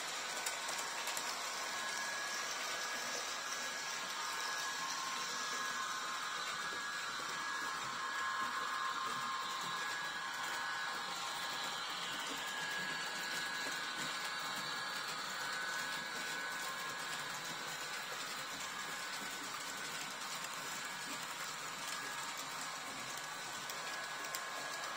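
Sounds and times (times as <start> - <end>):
model train motors whirring: 0.0 - 24.9.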